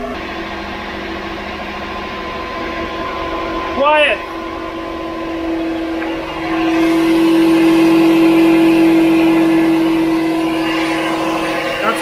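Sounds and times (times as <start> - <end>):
drivetrain hum: 0.0 - 12.0.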